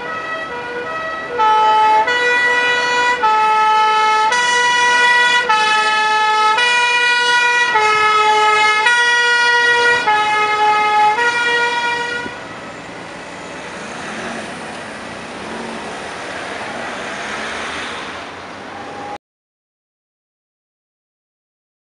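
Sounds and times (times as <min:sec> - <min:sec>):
two-tone fire truck siren: 0:00.0 - 0:17.6
passing vehicles: 0:00.0 - 0:19.2.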